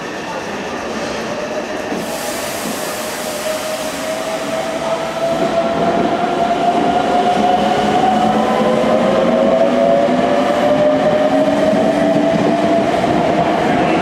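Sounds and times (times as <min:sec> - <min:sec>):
rumble of train wheels: 0:00.0 - 0:14.0.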